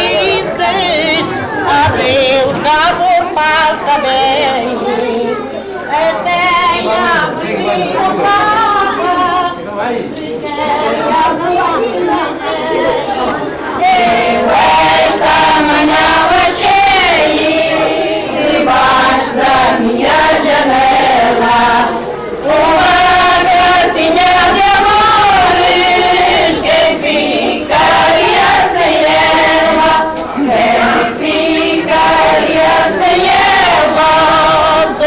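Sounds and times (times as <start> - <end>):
group singing in unison: 0.0 - 5.3, 5.9 - 35.0.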